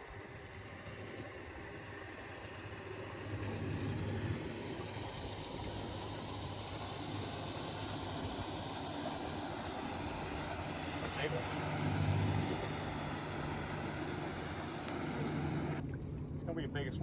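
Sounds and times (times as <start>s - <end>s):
boat motor running: 0.0s - 17.0s
water noise: 0.0s - 17.0s
wind: 0.0s - 17.0s.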